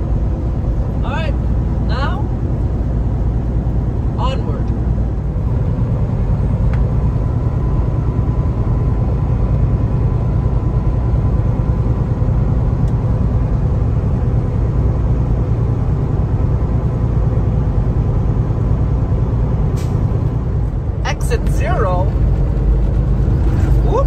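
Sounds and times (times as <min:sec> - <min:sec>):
road and tyre noise: 0:00.0 - 0:24.0
truck engine hum: 0:00.0 - 0:24.0.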